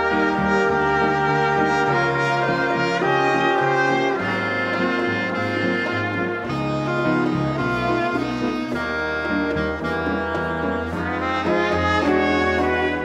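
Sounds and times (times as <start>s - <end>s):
latin dance band with horns: 0.0s - 13.0s.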